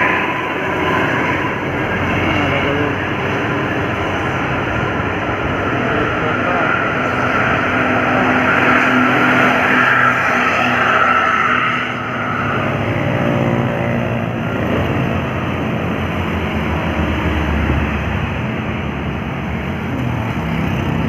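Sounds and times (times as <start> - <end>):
passing vehicle engine drone: 0.0 - 21.0.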